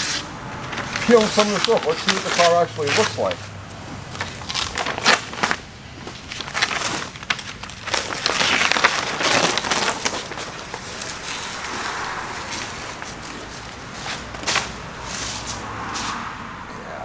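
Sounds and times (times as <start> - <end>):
tape ripping: 0.0 - 3.5, 4.1 - 15.5
paper crinkling: 0.7 - 3.5, 4.1 - 15.5.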